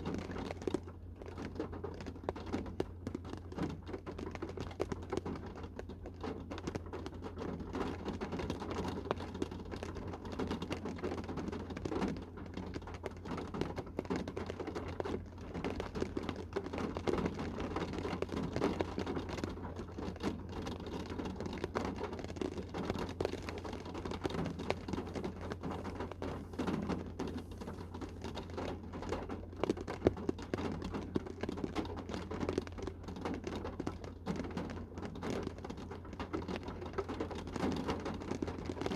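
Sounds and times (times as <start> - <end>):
rain on car roof: 0.0 - 38.9.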